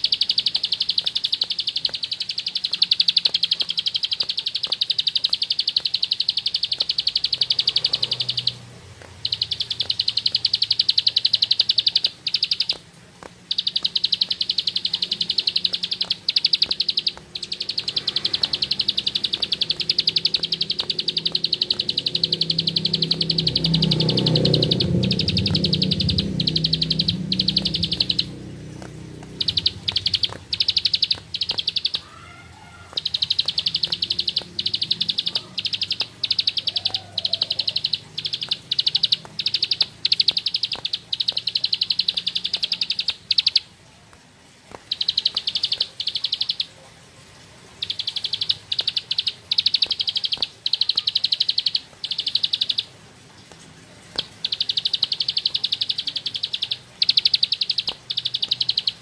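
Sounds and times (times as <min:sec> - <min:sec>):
bird singing fast high trill: 0:00.0 - 0:08.6, 0:09.2 - 0:12.8, 0:13.5 - 0:43.7, 0:44.9 - 0:46.7, 0:47.8 - 0:52.9, 0:54.2 - 0:59.0.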